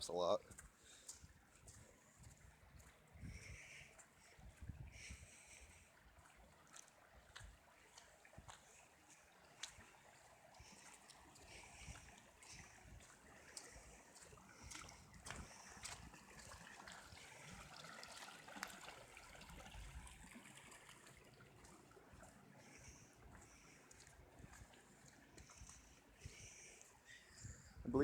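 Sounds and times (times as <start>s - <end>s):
floodwater rushing and trickling: 0.0s - 28.0s.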